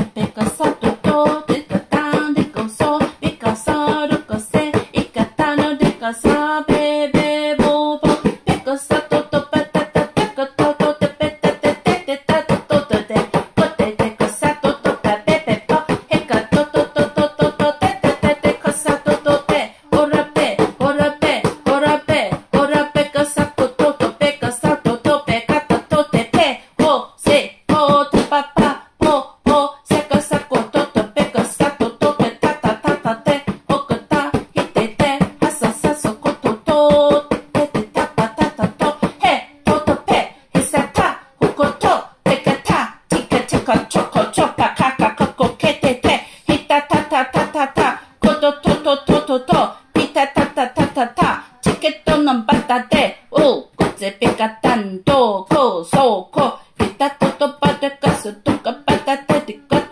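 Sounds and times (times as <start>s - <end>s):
person praying in rapid syllables: 0.0s - 59.9s.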